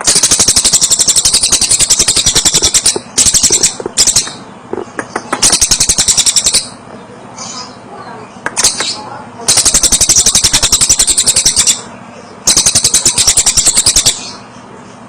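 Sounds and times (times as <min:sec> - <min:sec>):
songbird chattering trills: 0:00.0 - 0:15.0.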